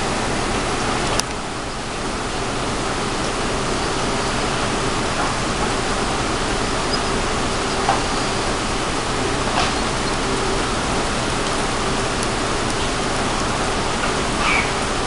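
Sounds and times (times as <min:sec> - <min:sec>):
faint hum: 0:00.0 - 0:15.0
model train running: 0:00.0 - 0:15.0.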